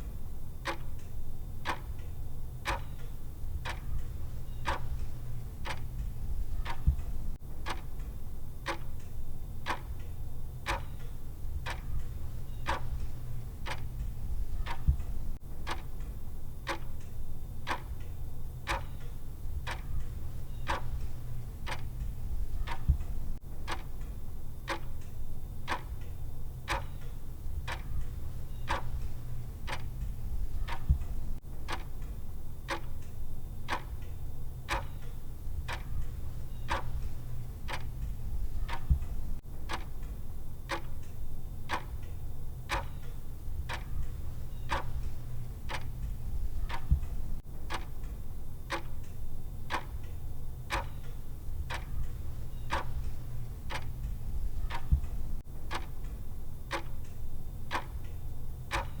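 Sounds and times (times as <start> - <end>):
clock-style ticking: 0.6 - 59.0.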